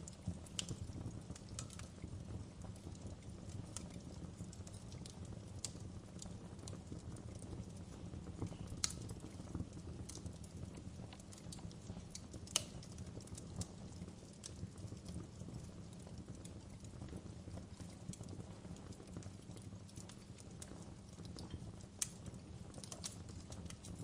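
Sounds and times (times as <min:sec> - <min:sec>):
low rumble of burning: 0:00.0 - 0:24.0
wood fire crackling: 0:00.0 - 0:24.0.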